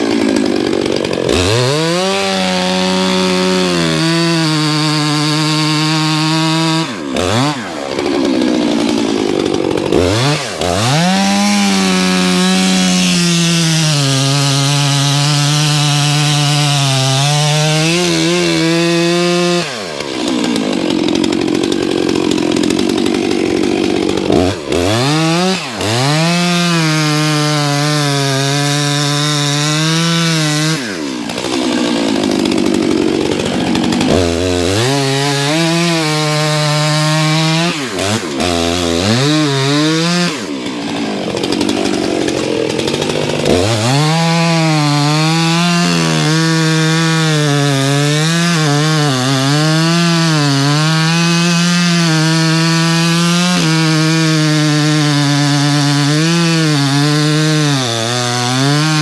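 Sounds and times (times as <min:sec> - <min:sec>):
chainsaw cutting ice: 0:00.0 - 0:59.0.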